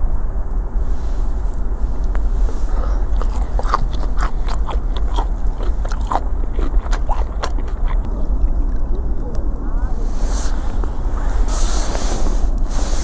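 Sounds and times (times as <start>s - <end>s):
low steady rumble: 0.0s - 13.0s
crunchy chewing: 0.9s - 9.4s, 10.0s - 13.0s.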